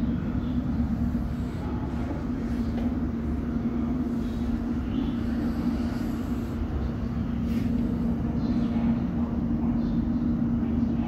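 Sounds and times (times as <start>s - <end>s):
train carriage rumble and hum: 0.0s - 11.0s.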